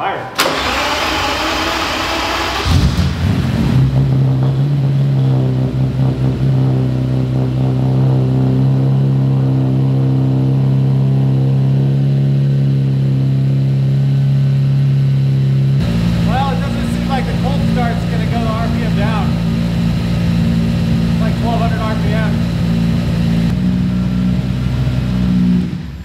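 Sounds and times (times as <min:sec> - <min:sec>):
car engine idling: 0:00.4 - 0:26.0.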